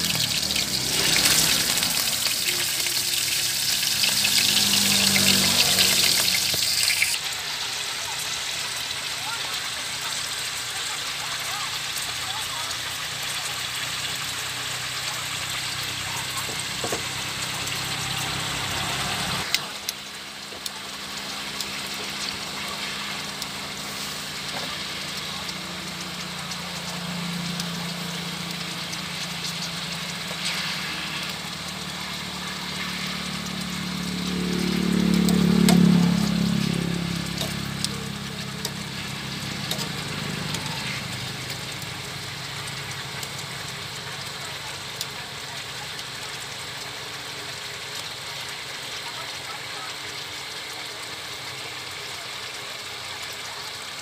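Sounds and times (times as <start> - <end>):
low engine-like hum: 0.0 - 12.7, 14.4 - 52.5
meat simmering with bubbling hiss: 0.0 - 54.0.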